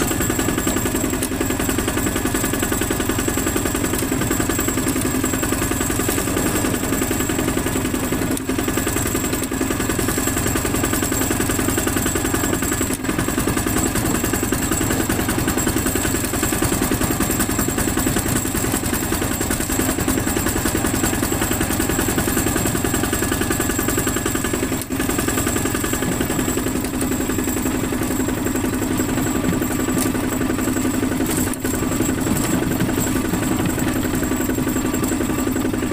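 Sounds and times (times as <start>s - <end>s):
diesel engine chugging: 0.0s - 35.9s.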